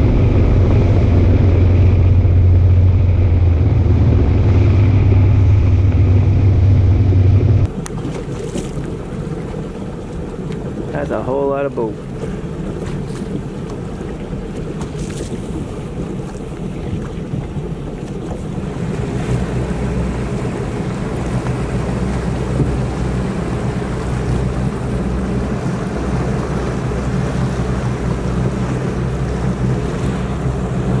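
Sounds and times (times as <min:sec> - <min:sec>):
wind noise on microphone: 0:00.0 - 0:09.6, 0:12.1 - 0:31.0
motorboat engine running: 0:00.0 - 0:31.0.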